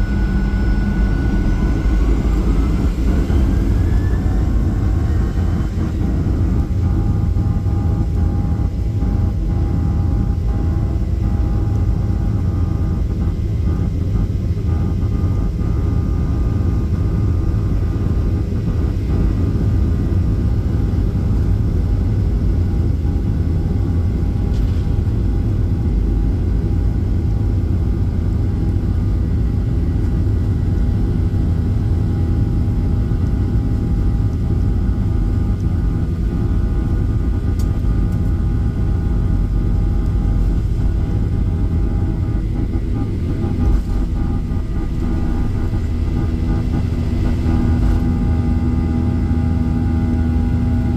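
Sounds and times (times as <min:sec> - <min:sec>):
airliner cabin rumble: 0:00.0 - 0:50.9
faint steady hums: 0:00.0 - 0:50.9.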